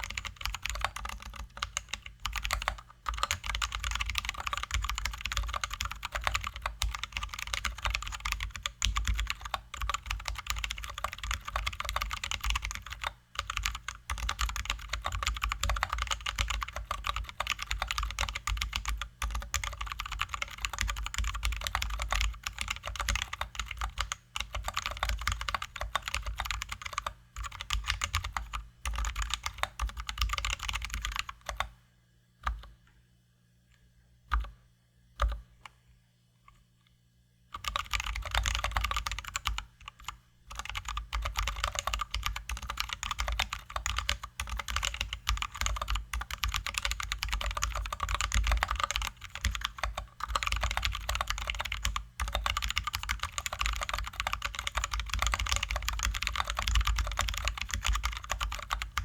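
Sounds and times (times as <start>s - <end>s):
typing on mechanical keyboard: 0.0s - 31.7s, 37.6s - 59.0s.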